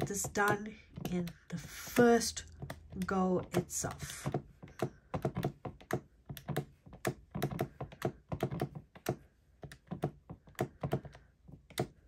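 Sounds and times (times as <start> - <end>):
calculator key taps: 0.0 - 12.0.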